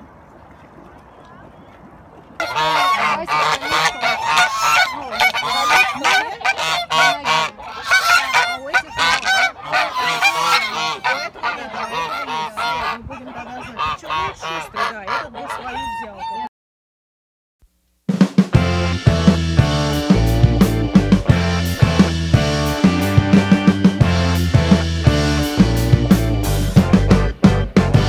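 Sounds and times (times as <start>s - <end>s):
geese honking: 2.4s - 16.5s, 18.6s - 28.0s.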